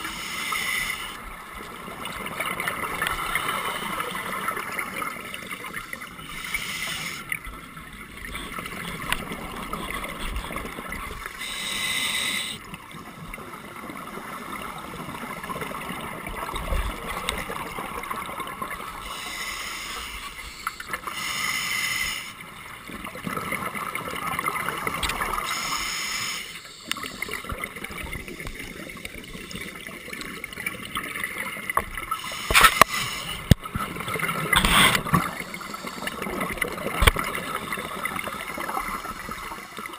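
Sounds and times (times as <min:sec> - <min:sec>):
steady underwater hiss: 0:00.0 - 0:12.8, 0:13.6 - 0:23.0, 0:24.1 - 0:29.8, 0:31.7 - 0:39.9.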